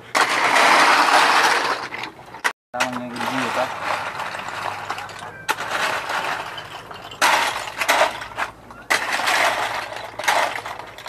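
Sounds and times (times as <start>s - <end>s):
blade scraping pile of shells: 0.1s - 2.1s, 2.9s - 11.0s.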